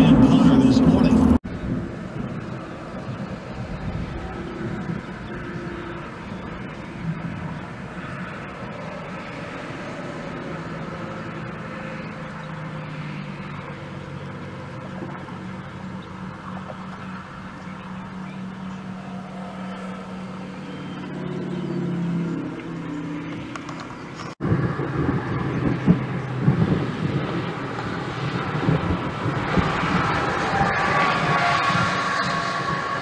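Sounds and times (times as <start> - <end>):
gusting wind: 0.0 - 33.0
vehicle engine humming: 0.0 - 33.0.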